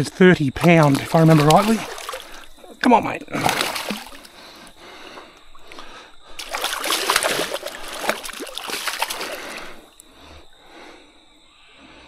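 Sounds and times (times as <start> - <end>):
creek water splashing: 0.5 - 11.0.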